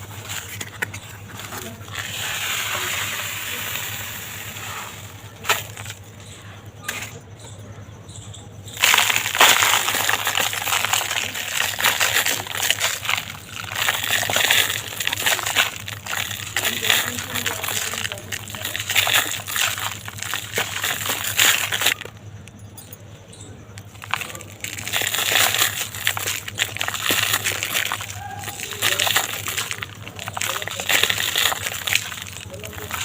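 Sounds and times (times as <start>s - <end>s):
dry material crumbling: 0.0s - 6.2s, 8.7s - 22.2s, 23.7s - 33.0s.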